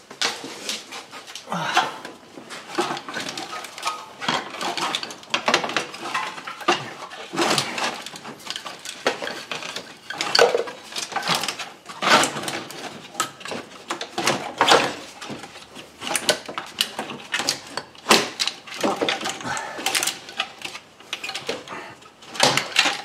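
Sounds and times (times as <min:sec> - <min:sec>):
plastic parts clattering: 0:00.2 - 0:23.0.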